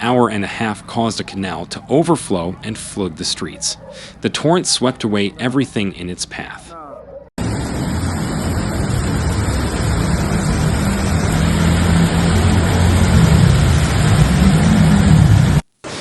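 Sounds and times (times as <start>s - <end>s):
low hum: 0.0s - 15.6s
floodwater torrent roaring: 0.0s - 16.0s.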